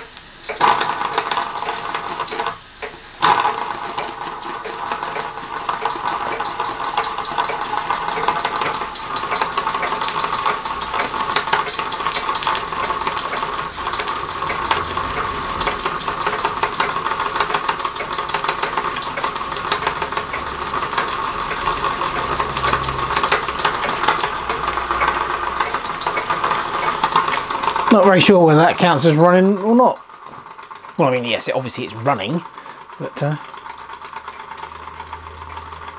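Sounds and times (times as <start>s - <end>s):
steam hissing: 0.0s - 33.6s
toy steam engine flywheel ticking: 0.0s - 35.9s.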